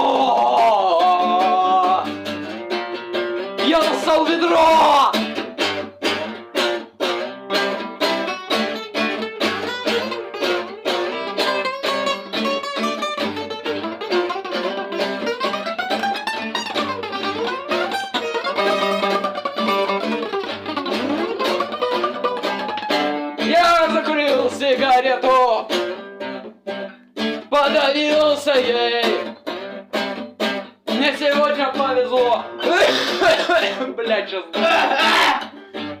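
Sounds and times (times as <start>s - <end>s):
acoustic guitar strumming chords: 0.0s - 36.0s
guitar lead with bending notes: 0.0s - 36.0s.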